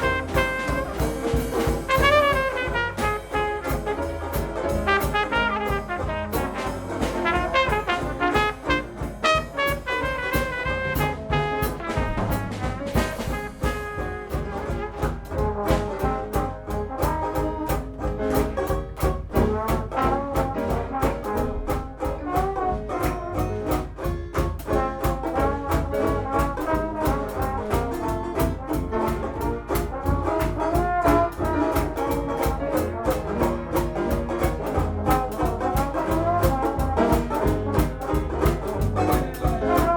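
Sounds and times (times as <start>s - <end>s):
dixieland jazz band playing: 0.0s - 39.9s
trumpet: 0.0s - 39.9s.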